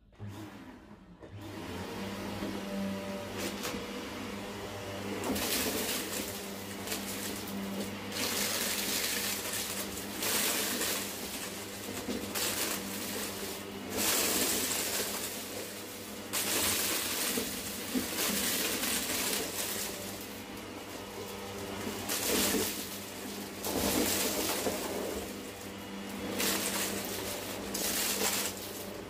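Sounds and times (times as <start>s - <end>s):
vacuum cleaner running over carpet: 1.3s - 29.0s.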